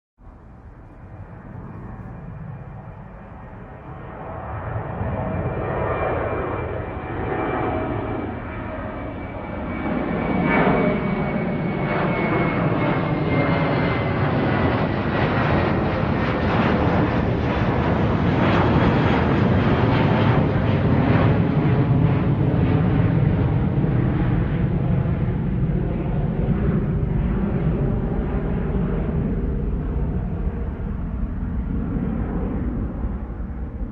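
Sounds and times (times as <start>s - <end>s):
airliner engine drone: 0.2s - 33.9s
faint engine whine: 0.2s - 33.9s.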